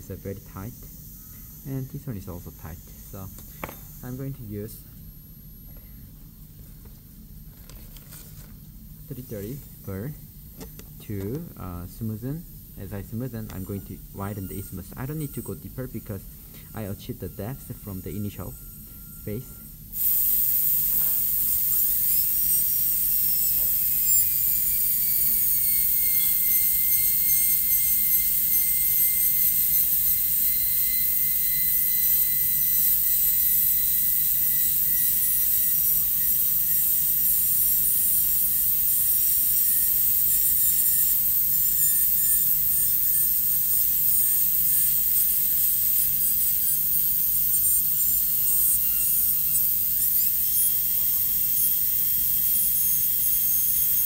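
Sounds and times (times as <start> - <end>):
dental drill whine: 0.0 - 54.0.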